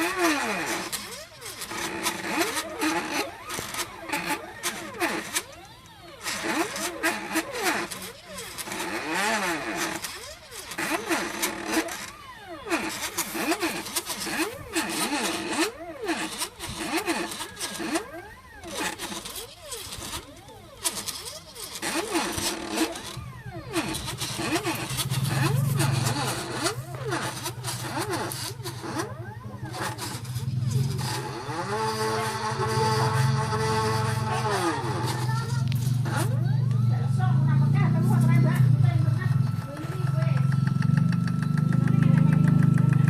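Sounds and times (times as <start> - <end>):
stepper motors whining: 0.0 - 43.0.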